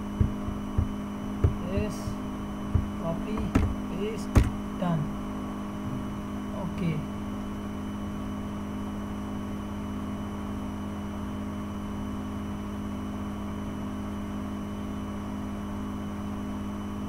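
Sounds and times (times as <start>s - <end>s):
background hum and whir: 0.0s - 17.0s.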